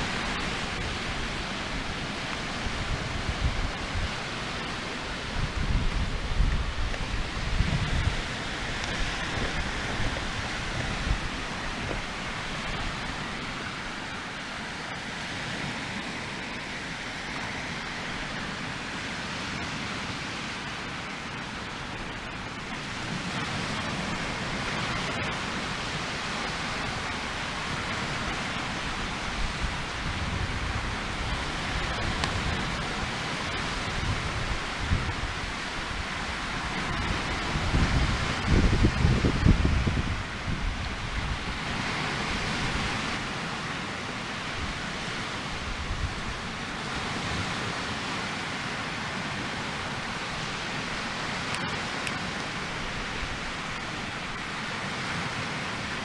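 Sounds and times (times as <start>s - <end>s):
wind buffeting microphone: 0.0s - 20.3s, 21.7s - 43.5s, 44.4s - 47.9s
log fire rushing: 0.0s - 56.0s.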